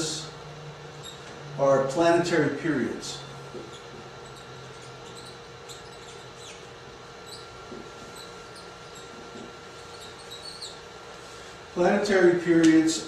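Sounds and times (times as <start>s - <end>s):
faint constant hum: 0.0s - 13.0s.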